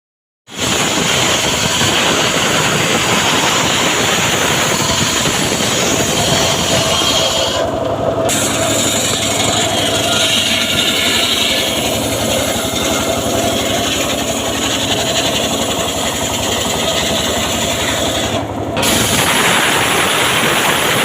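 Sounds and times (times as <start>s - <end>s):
sawmill engine drone: 0.5s - 21.0s.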